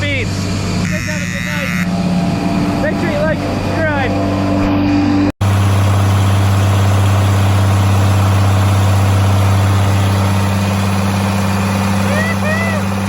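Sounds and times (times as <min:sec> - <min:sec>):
farm machinery humming: 0:00.0 - 0:13.0.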